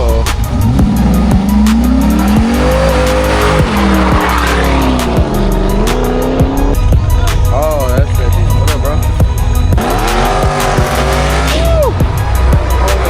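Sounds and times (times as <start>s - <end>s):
background music with beat: 0.0s - 13.0s
car engine revving: 0.0s - 13.0s.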